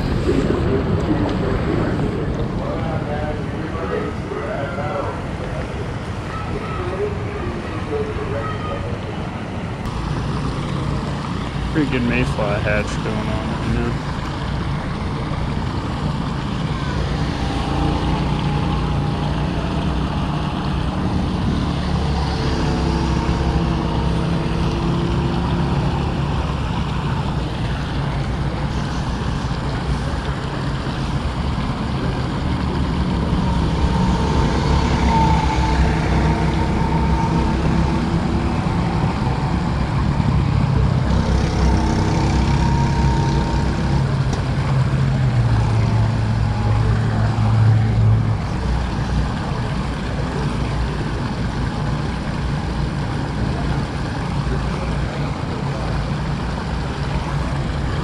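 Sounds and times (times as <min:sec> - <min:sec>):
vehicle engines running: 0:00.0 - 0:58.0
stream cascade rushing: 0:05.1 - 0:58.0.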